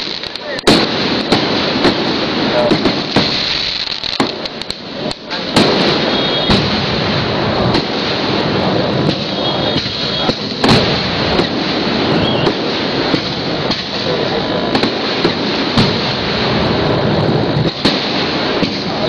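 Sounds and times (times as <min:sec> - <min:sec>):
firework shells bursting: 0:00.0 - 0:19.0
fireworks crackling: 0:00.0 - 0:19.0
sharp firework bangs: 0:00.0 - 0:19.0.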